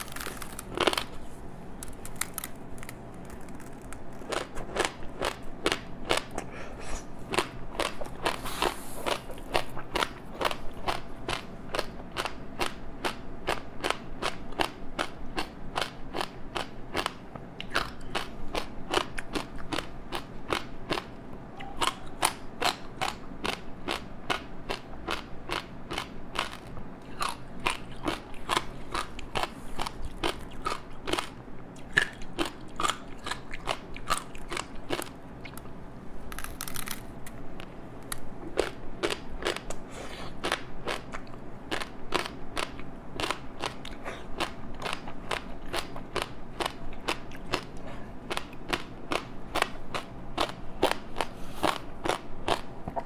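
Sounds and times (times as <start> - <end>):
crunchy snack chewing: 0.0 - 37.4, 38.0 - 53.0.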